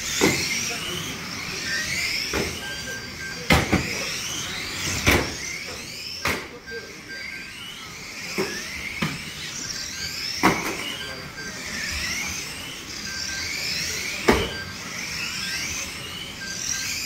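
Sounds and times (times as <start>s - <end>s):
rc car motors whining: 0.0s - 17.0s.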